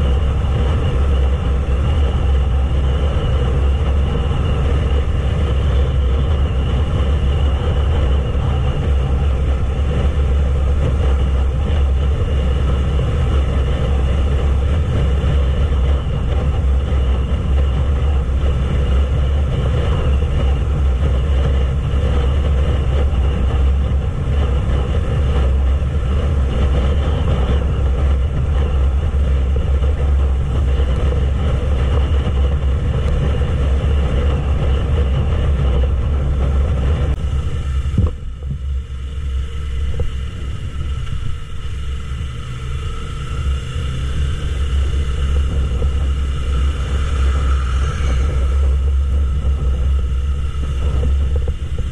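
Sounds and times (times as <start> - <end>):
motorcycle engine droning: 0.0 - 51.9
wind buffeting microphone: 0.0 - 51.9.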